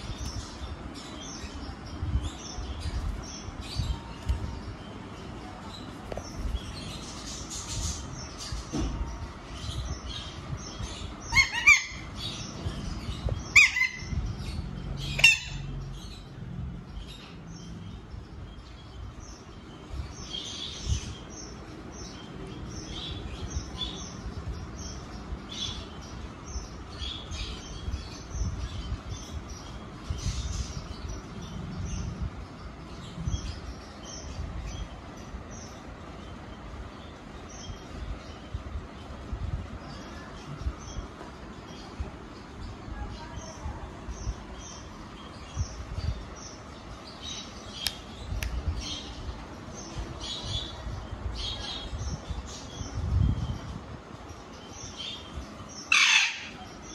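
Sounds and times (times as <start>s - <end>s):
parakeets chirping: 0.0s - 56.9s.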